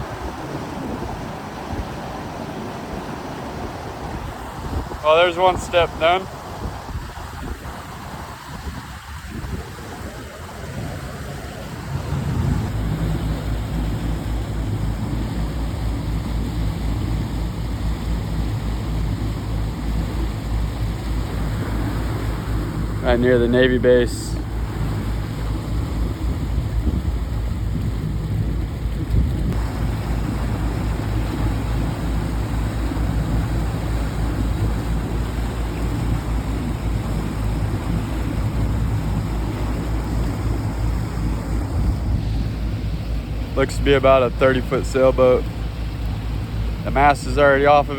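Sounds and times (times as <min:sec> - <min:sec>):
boat motor running: 0:00.0 - 0:47.9
water noise: 0:00.0 - 0:47.9
wind rumble on microphone: 0:00.0 - 0:47.9.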